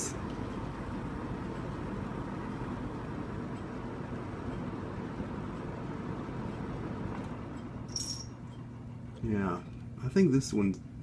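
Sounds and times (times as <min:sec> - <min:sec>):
box fan running: 0:00.0 - 0:11.0.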